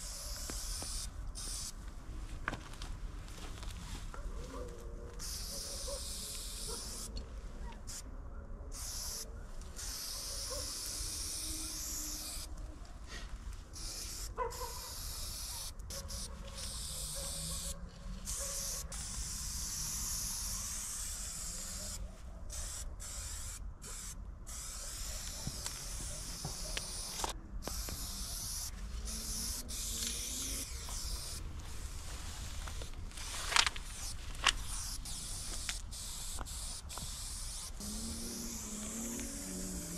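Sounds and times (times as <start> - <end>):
spray paint can hissing: 0.0 - 1.8, 5.2 - 7.2, 7.8 - 8.0, 8.7 - 12.6, 13.7 - 39.9.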